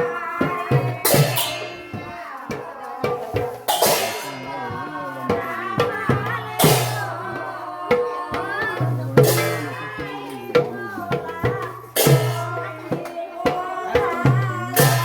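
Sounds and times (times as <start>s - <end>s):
drum and percussion: 0.0s - 15.0s
voices singing folk song: 0.0s - 15.0s.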